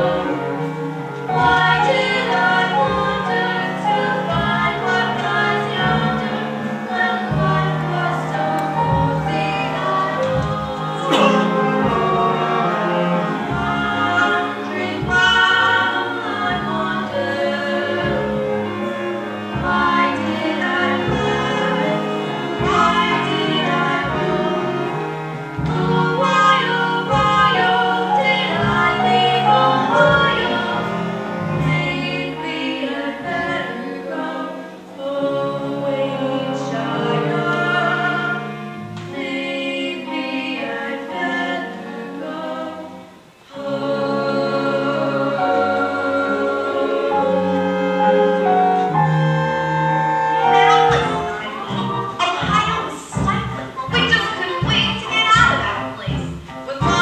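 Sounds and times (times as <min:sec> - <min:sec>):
instrumental accompaniment: 0:00.0 - 0:57.0
women singing a duet: 0:00.0 - 0:57.0.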